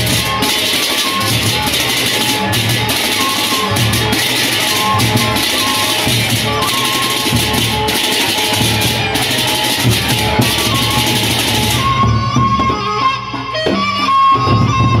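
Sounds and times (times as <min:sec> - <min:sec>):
hand cymbals clashing: 0:00.0 - 0:12.0
low drum beat: 0:00.0 - 0:12.8
held pitched tones: 0:00.0 - 0:13.4.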